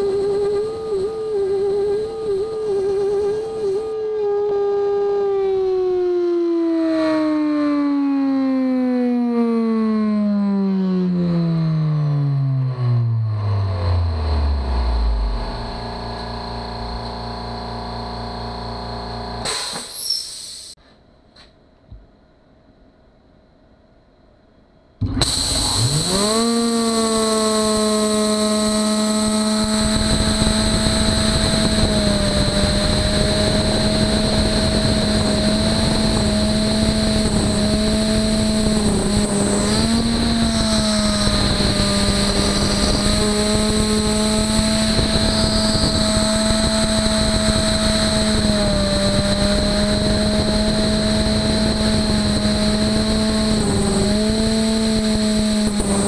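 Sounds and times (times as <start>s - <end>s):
router spindle whine: 0.0s - 6.2s, 10.6s - 19.5s, 25.1s - 56.0s.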